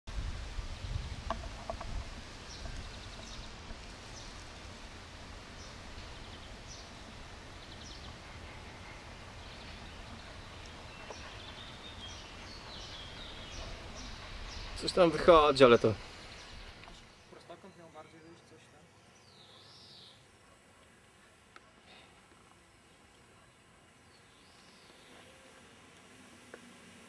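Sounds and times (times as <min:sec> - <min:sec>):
small birds chirping: 0:00.7 - 0:21.3, 0:21.9 - 0:25.7.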